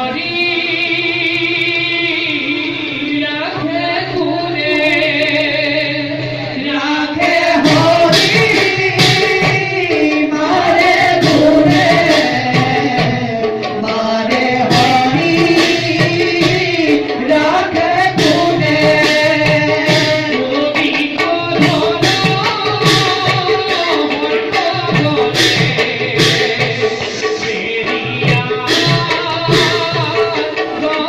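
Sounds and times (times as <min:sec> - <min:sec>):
drum strokes: 0:00.1 - 0:31.0.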